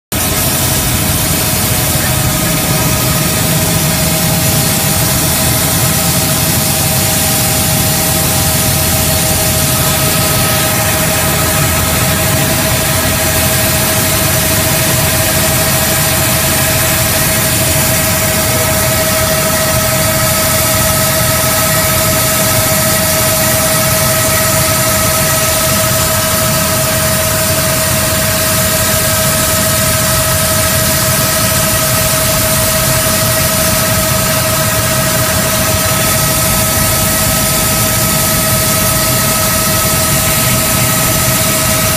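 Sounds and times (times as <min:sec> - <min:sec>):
helicopter engine and rotor rush: 0:00.1 - 0:41.9
helicopter engine whine: 0:00.1 - 0:41.9.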